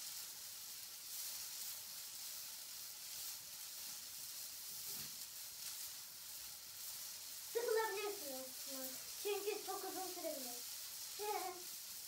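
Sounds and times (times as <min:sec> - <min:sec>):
hula hoop swishing: 0:00.0 - 0:12.0.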